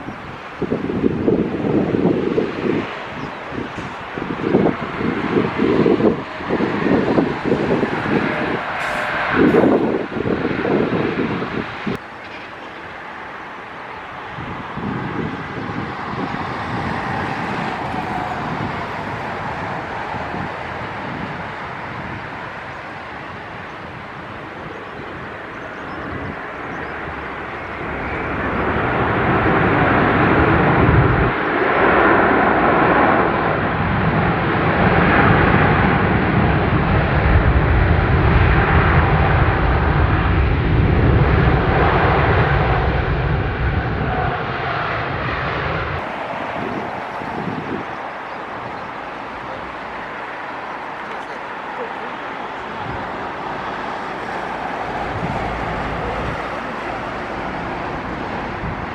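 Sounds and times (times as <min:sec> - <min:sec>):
jet airliner passing overhead: 0:00.0 - 0:58.9.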